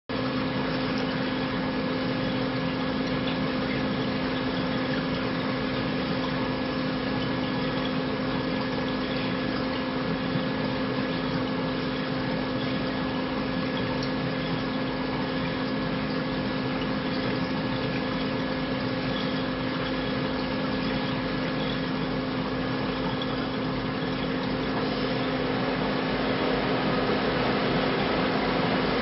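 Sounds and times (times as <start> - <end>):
aquarium pump humming: 0.1 - 29.0.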